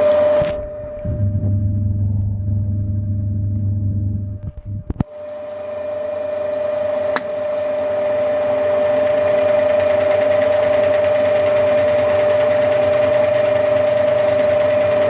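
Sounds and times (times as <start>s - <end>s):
milling machine motor whine: 0.0s - 15.0s.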